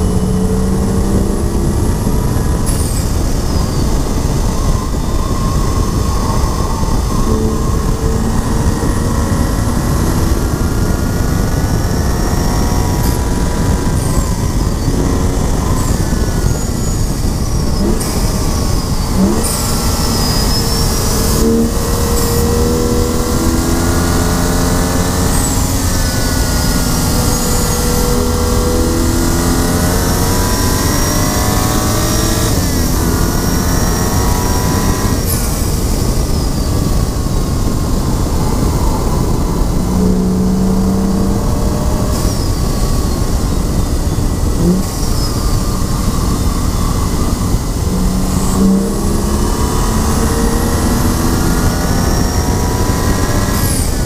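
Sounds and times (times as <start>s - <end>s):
car engine revving hard: 0.0s - 54.0s
wind noise: 0.0s - 54.0s.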